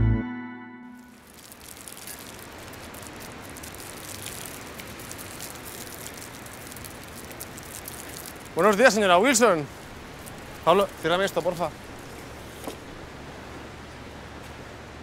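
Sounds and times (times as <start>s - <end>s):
beach ambience: 0.0s - 15.0s.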